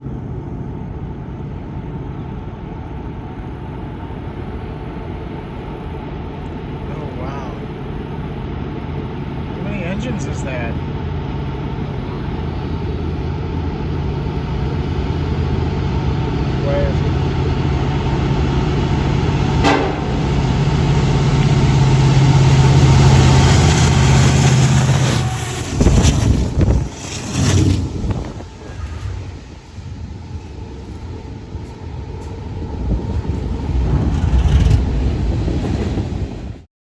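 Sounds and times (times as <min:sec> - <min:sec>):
diesel locomotives rumbling: 0:00.0 - 0:36.7.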